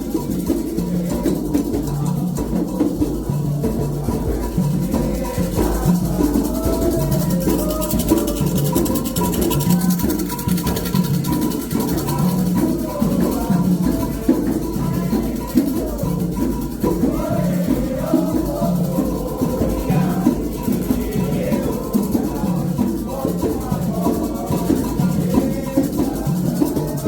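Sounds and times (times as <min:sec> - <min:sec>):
hand drums steady rhythm: 0:00.0 - 0:27.0
voices singing: 0:00.0 - 0:27.0
rattle: 0:04.8 - 0:27.0.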